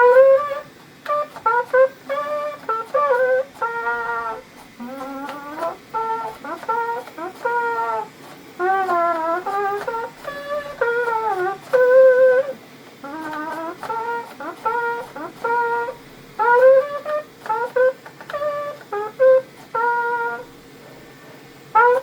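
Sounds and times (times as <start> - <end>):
trumpet playing melody: 0.0 - 22.0.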